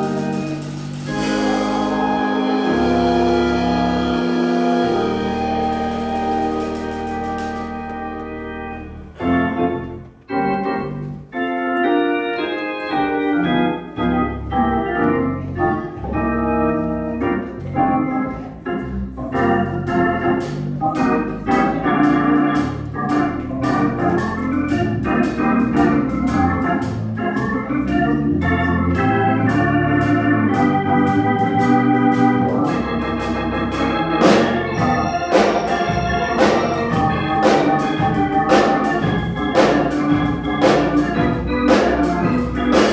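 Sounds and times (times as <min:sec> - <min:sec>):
organ music: 0:00.0 - 0:42.9.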